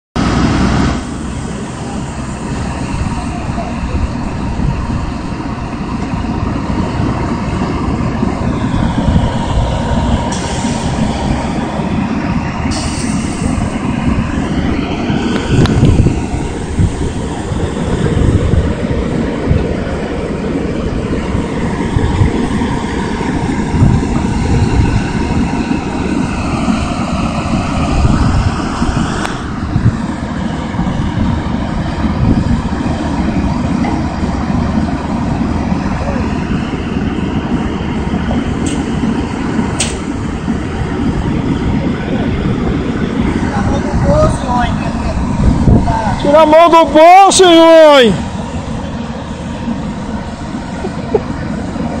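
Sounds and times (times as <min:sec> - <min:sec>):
excavator diesel engine under load: 0:00.2 - 0:52.0
high hydraulic whine: 0:00.2 - 0:52.0.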